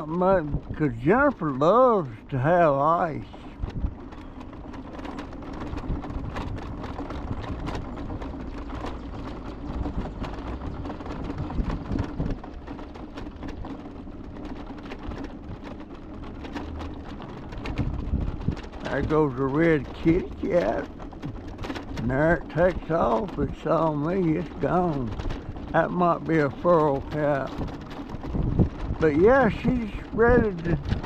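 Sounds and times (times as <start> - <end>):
motor hum: 0.0 - 31.0
loose rattling and clicks: 2.8 - 31.0.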